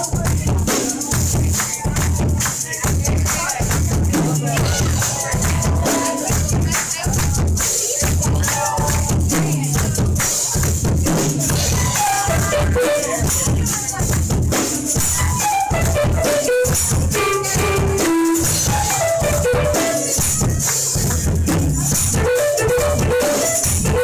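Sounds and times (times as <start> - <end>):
hand percussion shaking: 0.0 - 24.0
live band music: 0.0 - 24.0.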